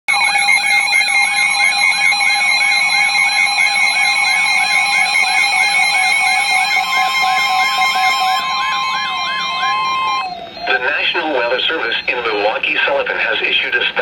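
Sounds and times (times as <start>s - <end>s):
electronic siren sweeping up: 0.1s - 13.1s
steady alert tone: 0.1s - 13.6s.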